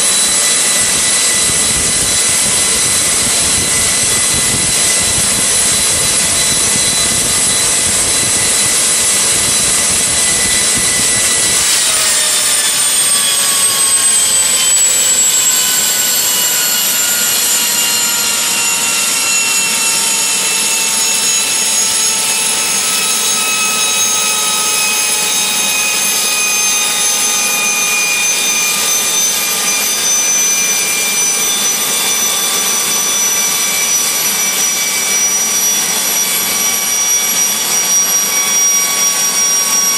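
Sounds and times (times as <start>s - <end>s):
turbine engine whine: 0.0s - 39.9s.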